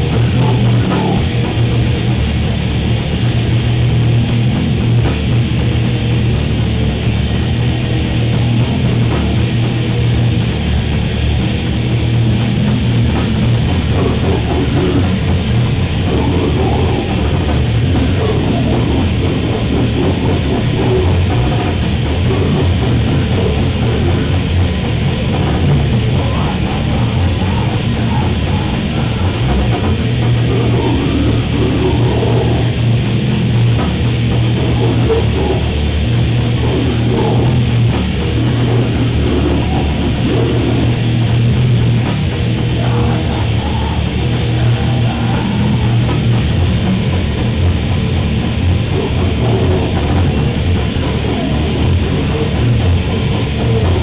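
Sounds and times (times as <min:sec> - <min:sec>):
distorted electric guitars: 0:00.0 - 0:54.0
drum kit: 0:00.0 - 0:54.0.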